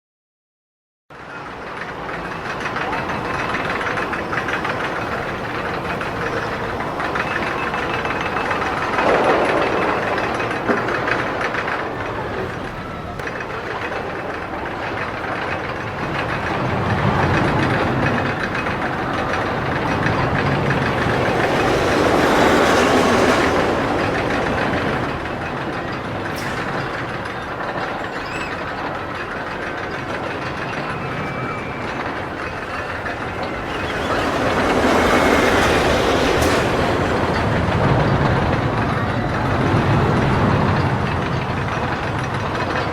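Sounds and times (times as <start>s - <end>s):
roller coaster rattling on track: 1.1s - 42.9s.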